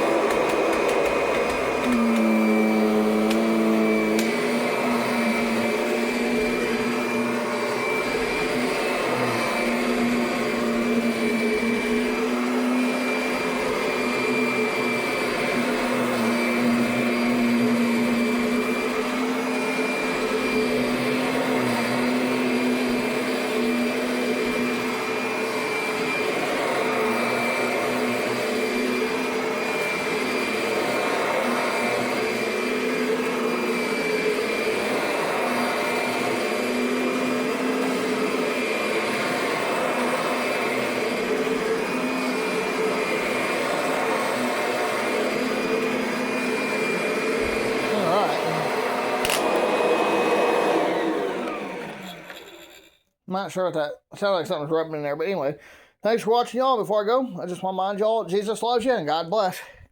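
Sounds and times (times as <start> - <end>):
vacuum cleaner motor whine: 0.0 - 53.0.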